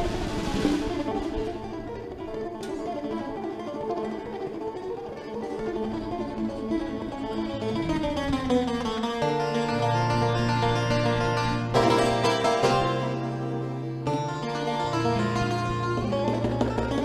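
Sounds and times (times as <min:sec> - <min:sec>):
bouzouki melody: 0:00.0 - 0:17.0.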